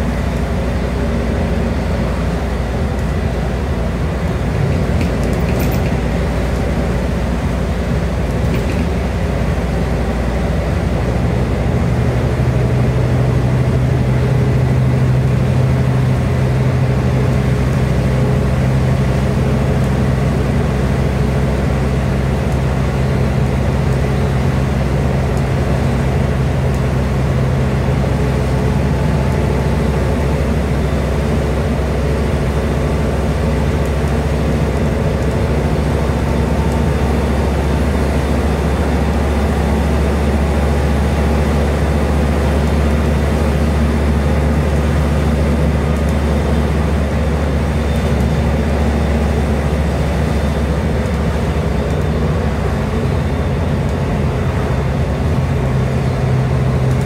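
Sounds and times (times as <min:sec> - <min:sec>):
bus diesel engine hum: 0:00.0 - 0:57.0.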